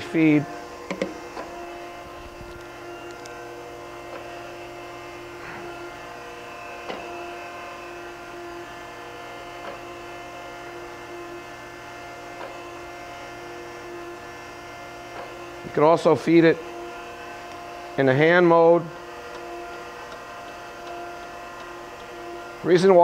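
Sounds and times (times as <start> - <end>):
surface grinder humming: 0.0 - 23.0.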